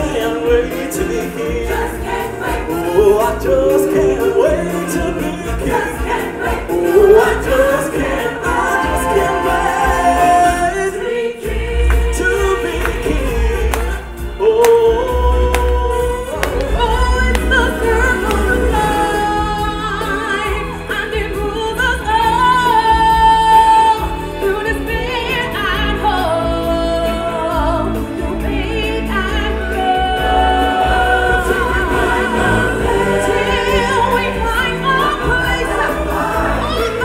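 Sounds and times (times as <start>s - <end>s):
singers in choir-like harmony: 0.0s - 21.4s, 22.2s - 37.0s
percussion: 0.0s - 37.0s.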